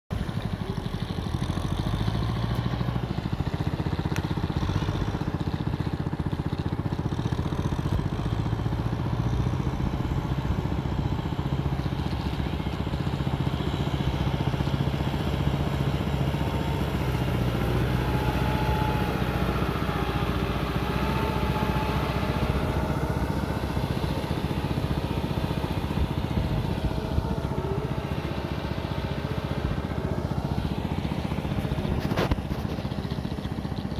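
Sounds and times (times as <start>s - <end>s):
tractor engine chugging: 0.1s - 33.9s.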